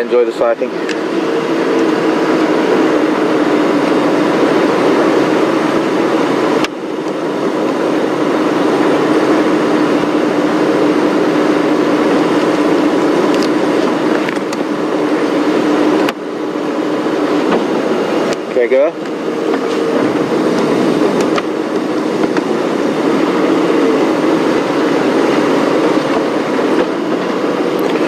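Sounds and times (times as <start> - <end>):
road and wind noise: 0.0 - 28.0
vehicle engine running: 0.0 - 28.0.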